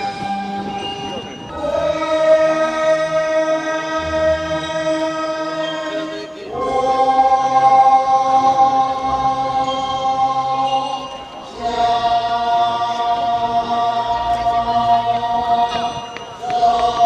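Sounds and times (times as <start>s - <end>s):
voices singing in unison: 0.0s - 17.0s.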